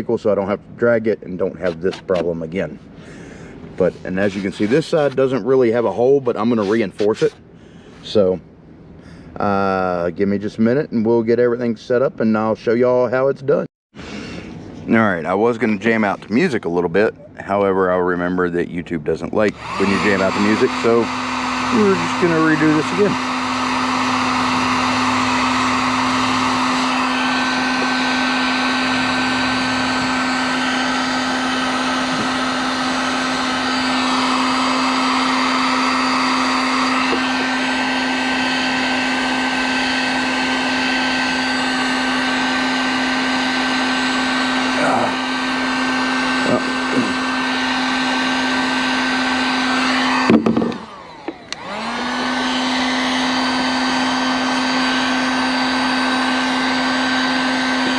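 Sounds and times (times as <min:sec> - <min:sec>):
heat gun fan whine: 0:00.0 - 0:08.3, 0:19.2 - 0:57.9.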